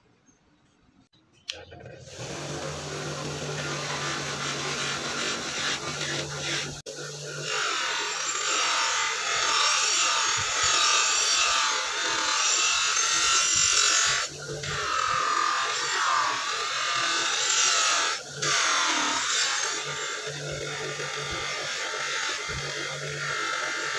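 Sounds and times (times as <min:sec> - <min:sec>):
bench grinder grinding metal blade: 0:01.8 - 0:23.9.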